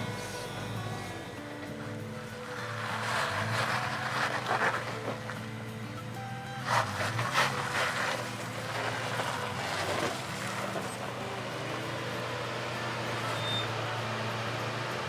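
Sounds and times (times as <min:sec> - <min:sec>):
truck engine at low revs: 0:00.0 - 0:15.0
tyres crunching on gravel: 0:00.0 - 0:15.0.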